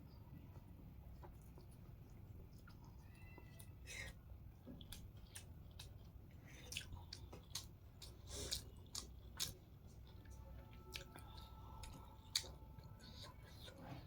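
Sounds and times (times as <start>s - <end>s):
person chewing noodles: 1.2s - 14.0s.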